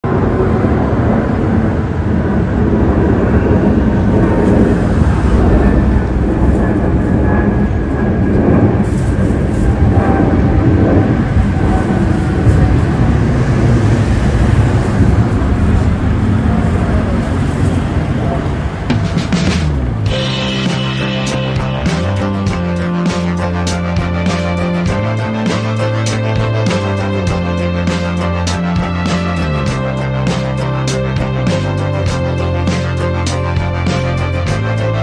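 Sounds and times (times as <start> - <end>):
faint jet engine whine: 0.0 - 35.0
jet airliner roar: 0.0 - 35.0.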